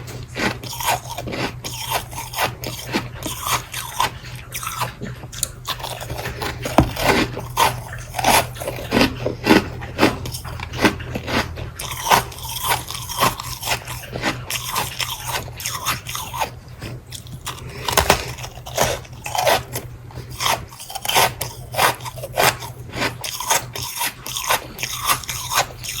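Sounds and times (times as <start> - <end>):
chewing ice crunches: 0.0 - 26.0
steady low hum: 0.0 - 26.0.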